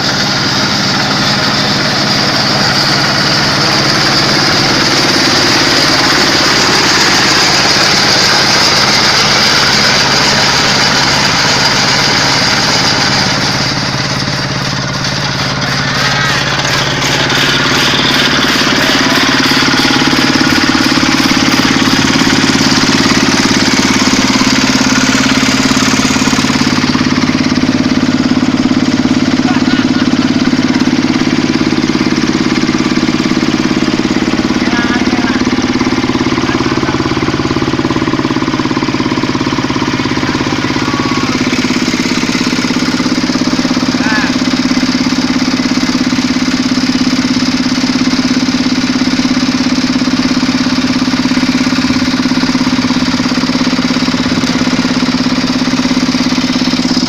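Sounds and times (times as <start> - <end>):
diesel engine running loudly: 0.0 - 57.0.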